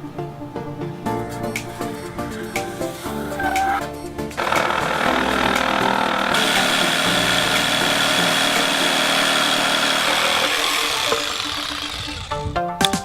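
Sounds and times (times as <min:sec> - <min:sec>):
power tool whining: 0:01.4 - 0:12.6.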